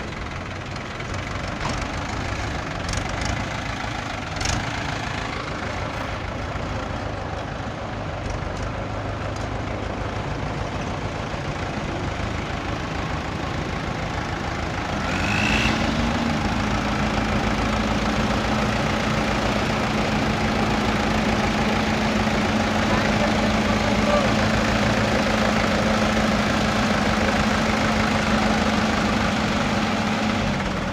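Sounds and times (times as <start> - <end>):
heavy vehicle engine running: 0.0 - 30.9.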